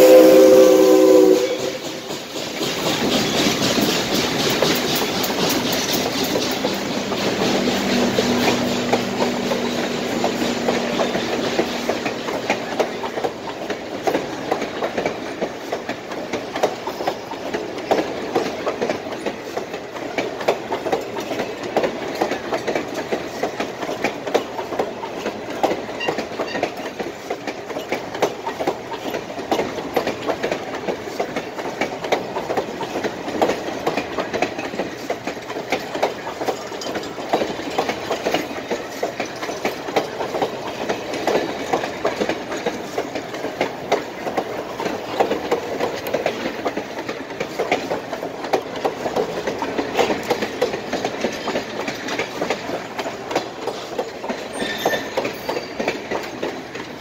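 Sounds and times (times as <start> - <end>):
train rumble: 0.0 - 57.0
train wheels clattering over rail joints: 0.0 - 57.0.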